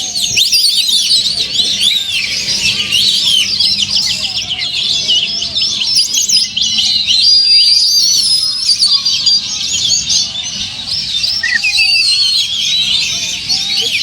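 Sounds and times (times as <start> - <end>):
bird singing whistles and trills: 0.0 - 14.0
faint calls of other birds: 0.0 - 14.0.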